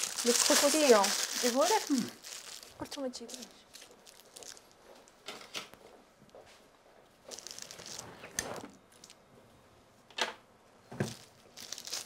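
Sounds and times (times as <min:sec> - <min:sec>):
rustling and crinkling: 0:00.0 - 0:09.2, 0:10.9 - 0:12.0.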